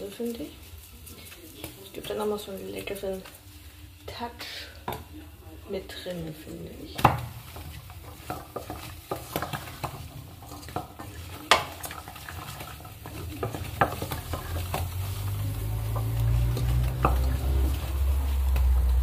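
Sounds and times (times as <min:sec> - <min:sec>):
vegetables sizzling in a pot: 0:00.0 - 0:19.0
wooden spoon scraping a pot: 0:00.0 - 0:19.0.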